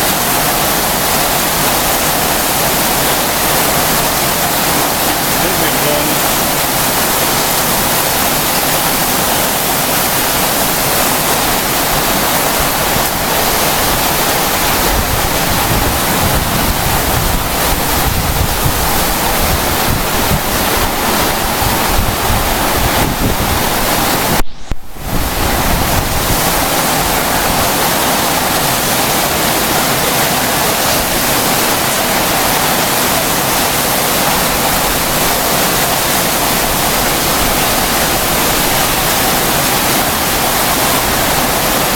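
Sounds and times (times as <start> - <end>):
heavy rain and hail pelting: 0.0 - 41.9
wind: 0.0 - 41.9.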